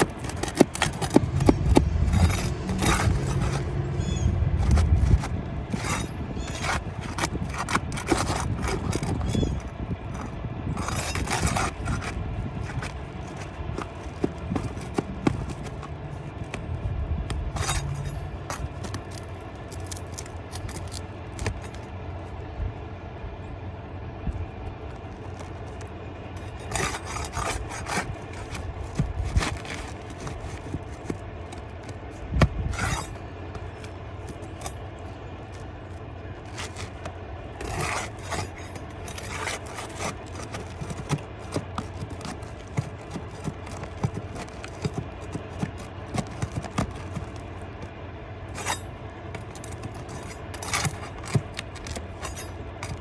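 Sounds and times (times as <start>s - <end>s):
tools scraping roof shingles: 0.0s - 21.9s, 24.9s - 53.0s.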